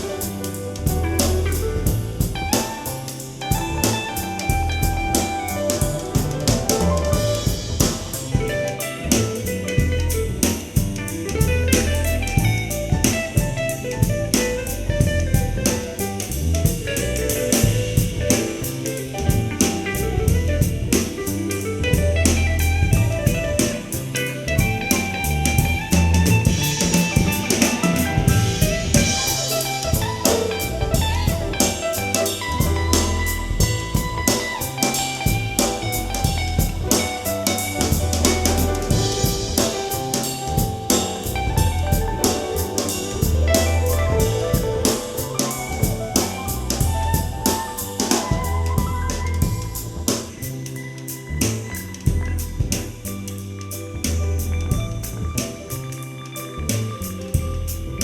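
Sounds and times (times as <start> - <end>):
soul jazz music: 0.0 - 58.0.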